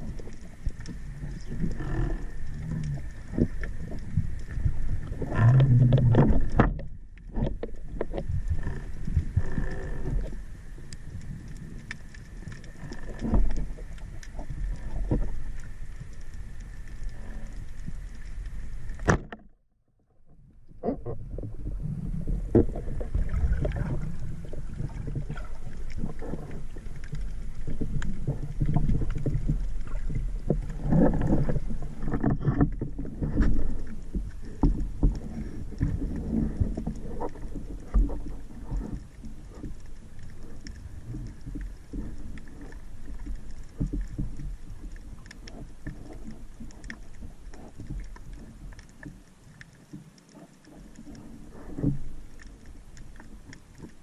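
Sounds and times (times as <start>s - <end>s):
water sloshing: 0.0s - 19.6s, 20.7s - 54.0s.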